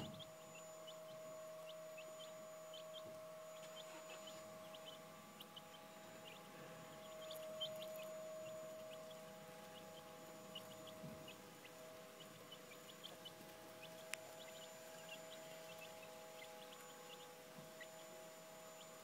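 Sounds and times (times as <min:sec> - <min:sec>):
chicks peeping: 0:00.0 - 0:19.0
steady hum: 0:00.0 - 0:19.0.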